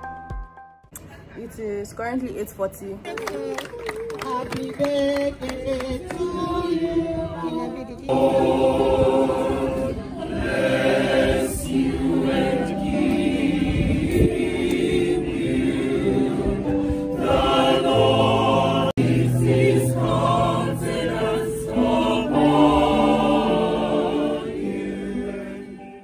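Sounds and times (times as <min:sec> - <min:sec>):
gospel choir singing: 0:04.2 - 0:26.0.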